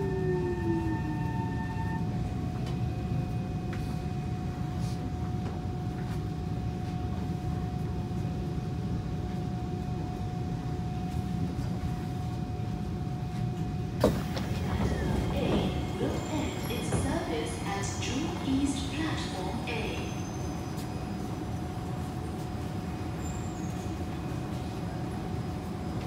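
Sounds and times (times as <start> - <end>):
train interior rumble: 0.0 - 26.0.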